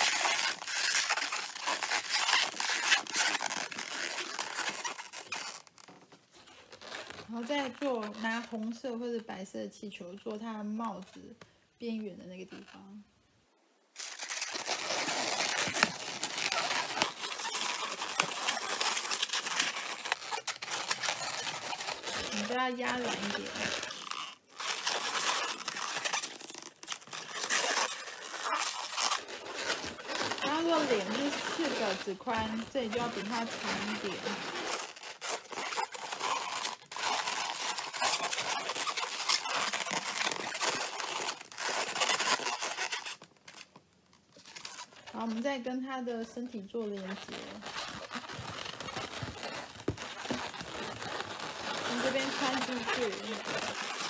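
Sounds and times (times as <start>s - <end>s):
balloons rubbing and squeaking: 0.0s - 9.4s, 10.5s - 13.2s, 14.0s - 54.0s.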